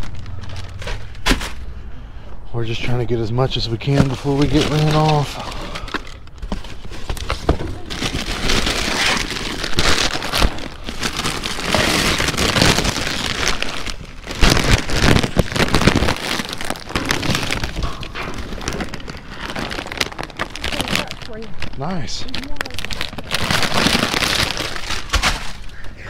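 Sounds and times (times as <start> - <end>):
plastic bags rustling and crinkling: 0.0 - 1.9, 2.7 - 26.0.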